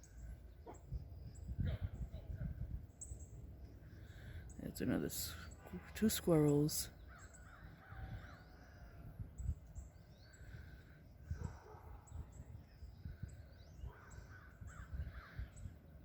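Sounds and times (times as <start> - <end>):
low wind rumble: 0.0 - 16.0
small birds chirping: 0.0 - 16.0.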